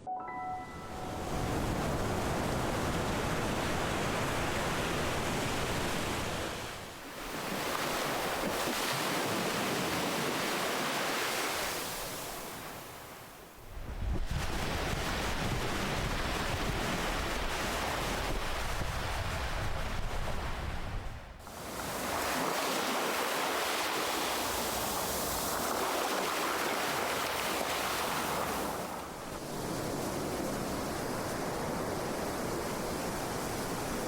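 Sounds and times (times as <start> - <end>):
ocean waves breaking: 0.7 - 13.2, 14.3 - 34.0.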